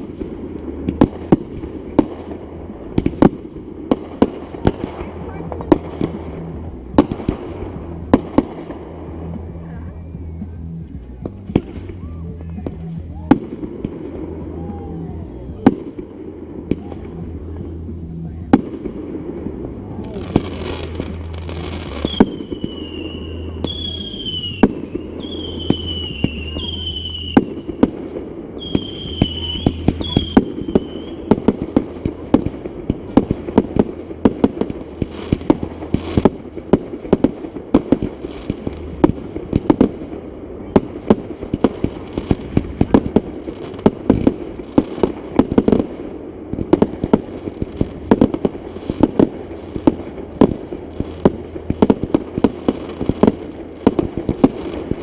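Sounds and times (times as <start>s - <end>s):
fireworks whistles: 0.0s - 16.1s, 20.0s - 55.0s
fireworks bangs and crackling: 0.0s - 55.0s.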